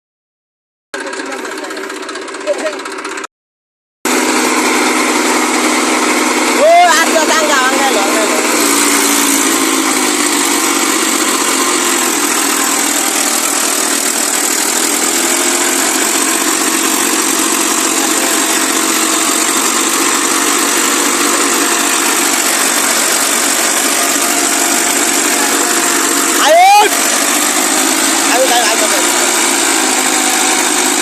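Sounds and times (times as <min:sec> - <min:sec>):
tractor diesel engine running: 0:01.0 - 0:03.3, 0:04.1 - 0:31.0.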